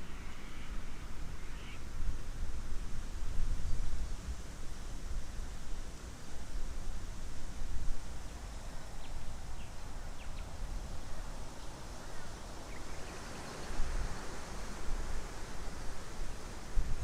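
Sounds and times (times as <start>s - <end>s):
wind rumbling on microphone: 0.7s - 17.0s.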